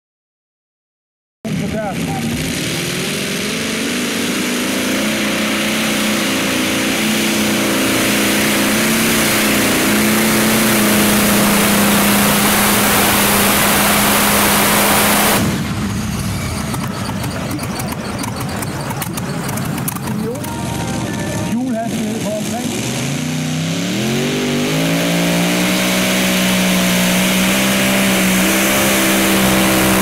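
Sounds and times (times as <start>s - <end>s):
rough low engine sound: 1.5s - 30.0s
tractor engine howling: 1.5s - 30.0s.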